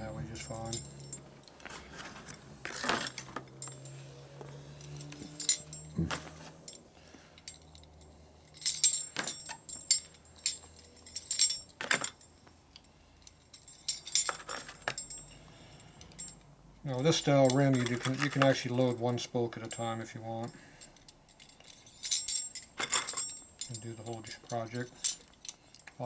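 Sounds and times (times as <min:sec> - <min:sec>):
low steady hum: 0:00.0 - 0:26.0
metal spokes clinking and jangling: 0:00.0 - 0:26.0.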